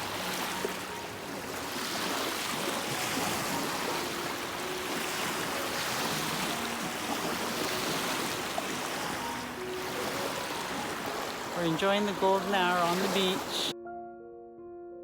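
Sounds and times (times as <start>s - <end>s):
lake waves washing on shore: 0.0s - 13.8s.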